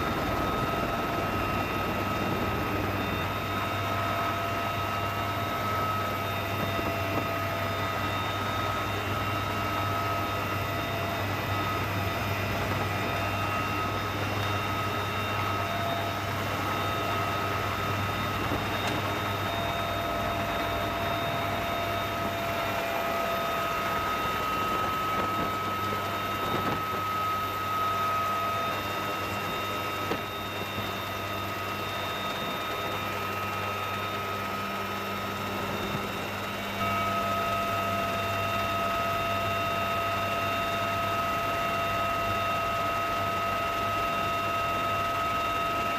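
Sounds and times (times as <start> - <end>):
helicopter engine whine: 0.0 - 45.9.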